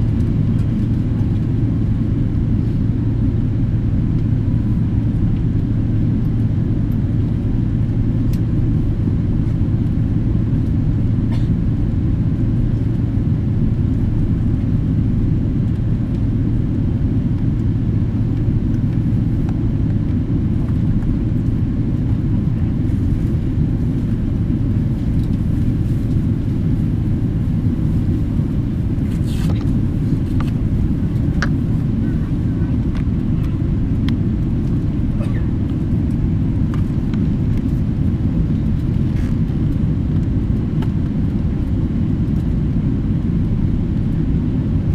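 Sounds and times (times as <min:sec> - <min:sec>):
jet engines low rumble: 0:00.0 - 0:44.9.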